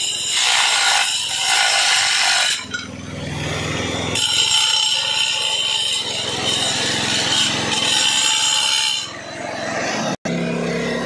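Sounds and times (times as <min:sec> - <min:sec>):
angle grinder cutting tile: 0:00.0 - 0:11.0.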